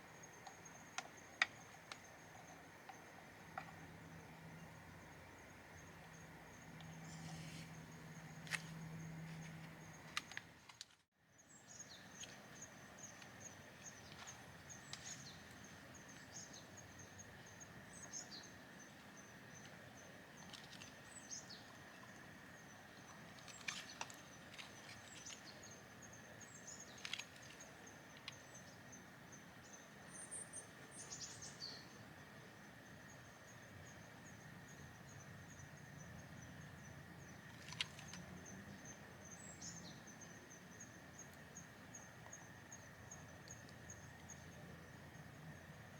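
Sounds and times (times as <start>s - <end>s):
insect chirping: 0.0s - 10.5s, 11.3s - 45.9s.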